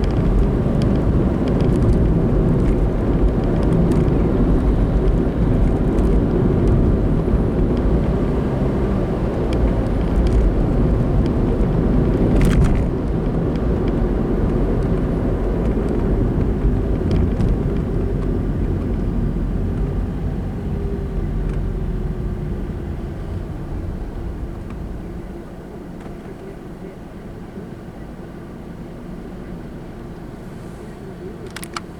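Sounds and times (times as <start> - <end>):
car engine and tyre rumble: 0.0 - 31.9.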